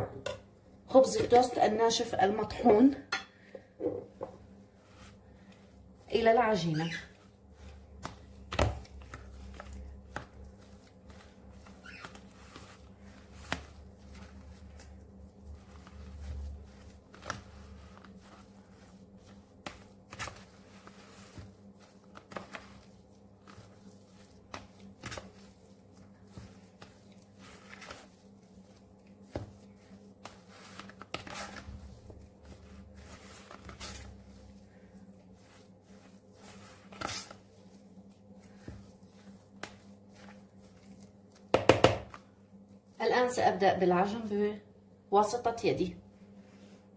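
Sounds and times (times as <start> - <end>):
spoon stirring mashed potato: 4.1 - 42.6.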